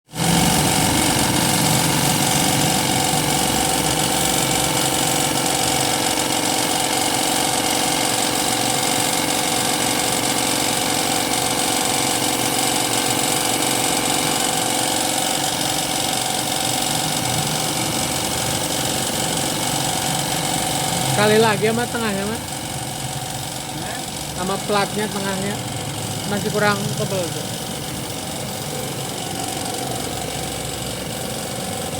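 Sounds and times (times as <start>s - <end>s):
air compressor motor hum: 0.0s - 31.9s.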